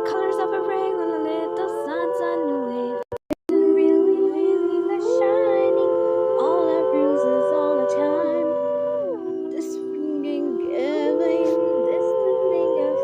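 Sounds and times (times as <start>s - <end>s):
hummed chords: 0.0s - 13.0s.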